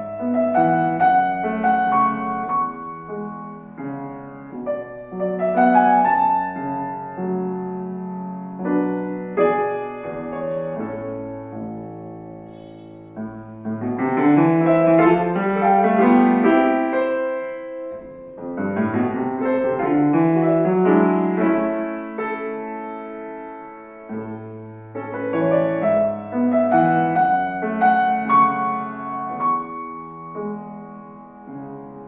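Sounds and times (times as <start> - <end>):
classical piano playing: 0.0 - 32.0.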